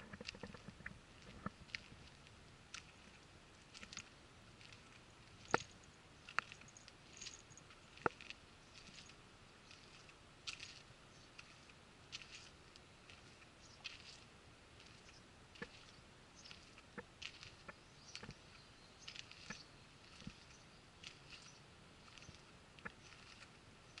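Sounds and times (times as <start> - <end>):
footstep scuffs and clicks: 0.0 - 24.0.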